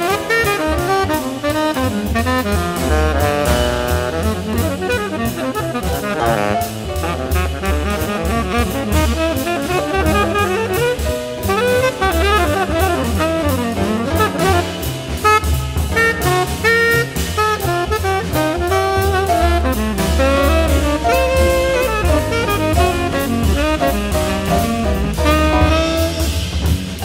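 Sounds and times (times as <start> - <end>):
saxophone improvising: 0.0 - 26.6
bass: 0.0 - 27.0
drum kit: 0.0 - 27.0.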